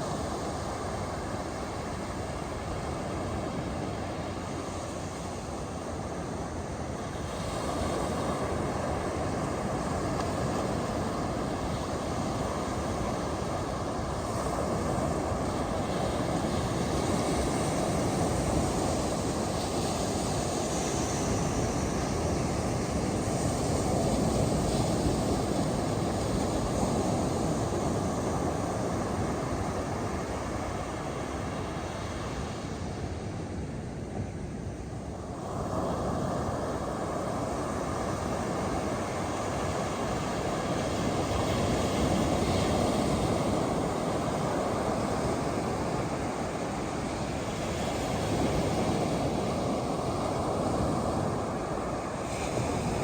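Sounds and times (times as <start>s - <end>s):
ocean surf breaking on a beach: 0.0s - 53.0s.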